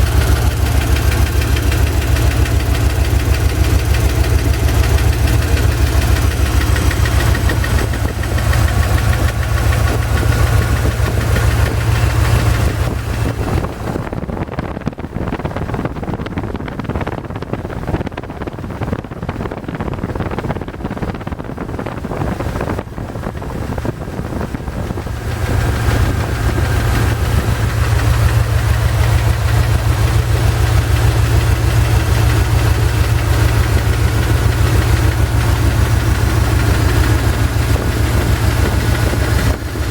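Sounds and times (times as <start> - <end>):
car engine running: 0.0 - 39.9
fast engine knocking: 0.0 - 39.9.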